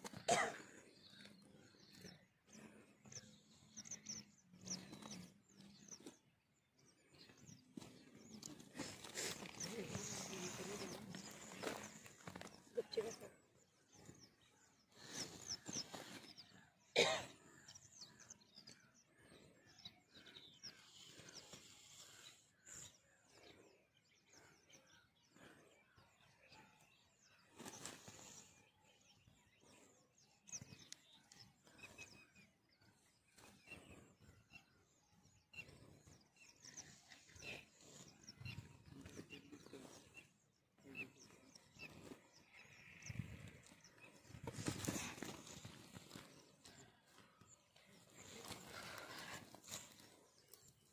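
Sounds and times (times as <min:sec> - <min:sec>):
faint bird chirps: 0:00.0 - 0:50.9.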